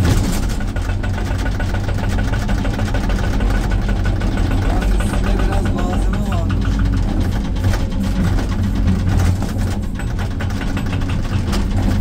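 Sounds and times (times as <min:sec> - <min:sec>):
diesel engine running under load: 0:00.0 - 0:12.0
hydraulic breaker hammering rock: 0:00.0 - 0:12.0.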